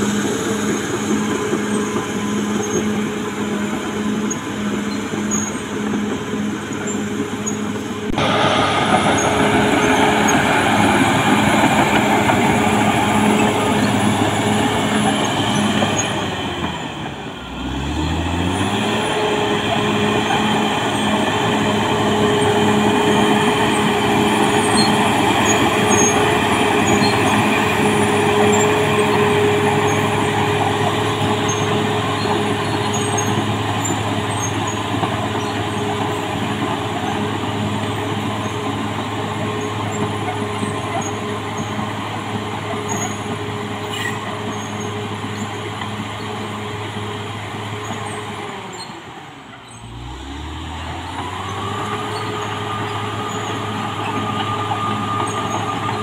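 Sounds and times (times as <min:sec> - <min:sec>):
steel tracks clattering: 0:00.0 - 0:49.8, 0:51.0 - 0:56.0
dozer diesel engine under load: 0:00.0 - 0:56.0.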